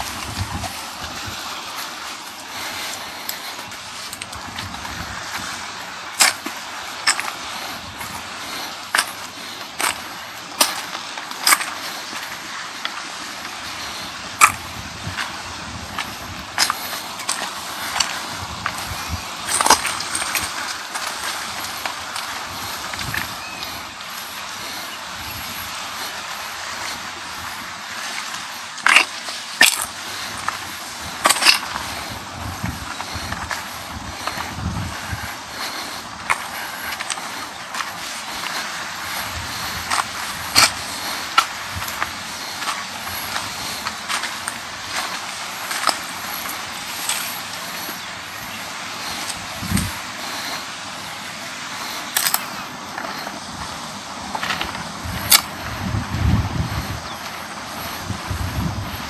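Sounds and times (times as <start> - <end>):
waves washing: 0.0 - 59.0
wind: 0.0 - 59.0.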